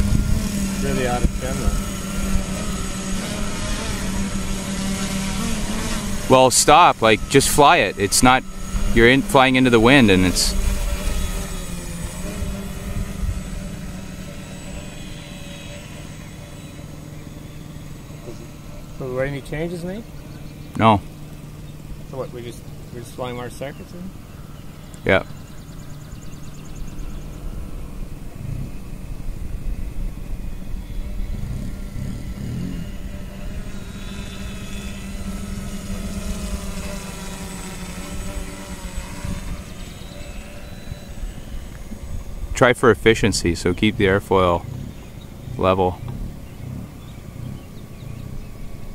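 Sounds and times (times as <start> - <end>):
drone motors and propellers whining: 0.0 - 48.9.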